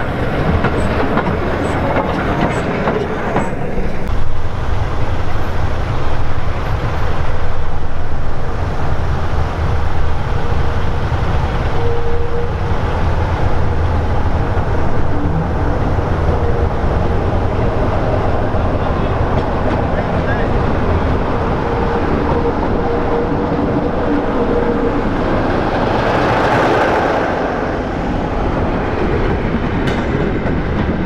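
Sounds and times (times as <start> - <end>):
diesel locomotive engine rumbling: 0.0 - 31.0.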